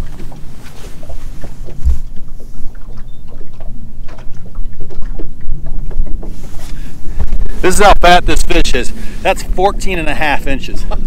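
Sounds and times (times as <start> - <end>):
waves slapping boat hull: 0.0 - 11.0
wind buffeting microphone: 0.0 - 11.0.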